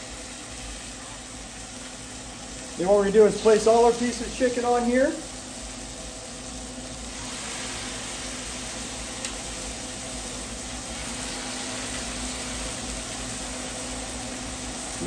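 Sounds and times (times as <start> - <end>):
chicken sizzling on a griddle: 0.0 - 15.0.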